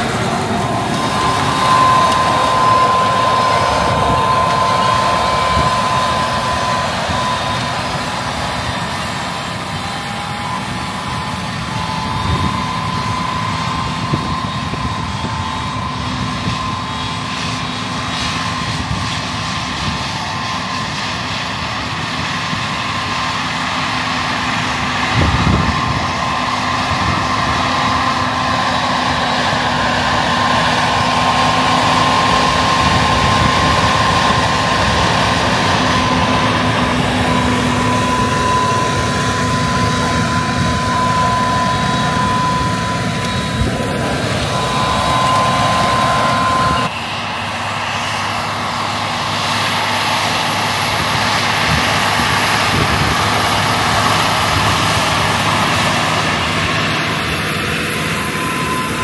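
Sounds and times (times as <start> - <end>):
steady whine: 0.0 - 59.0
tractor diesel engine running: 0.0 - 59.0.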